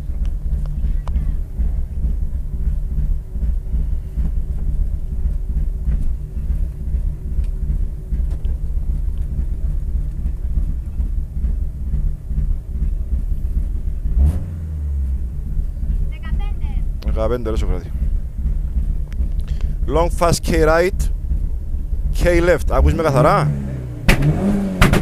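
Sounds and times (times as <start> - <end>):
car engine idling inside cabin: 0.0 - 25.0.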